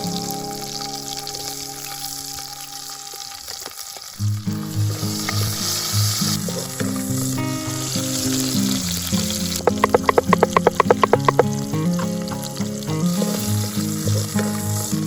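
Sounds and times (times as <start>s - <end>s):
background music: 0.0s - 3.2s, 4.3s - 15.0s
food sizzling in a pan: 0.0s - 15.0s.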